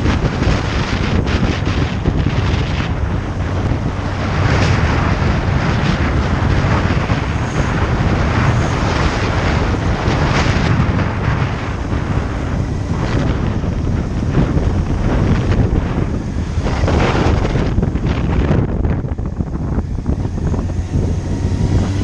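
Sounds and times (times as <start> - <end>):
motorcycle engine rumble: 0.0 - 22.0
wind buffeting on microphone: 0.0 - 22.0.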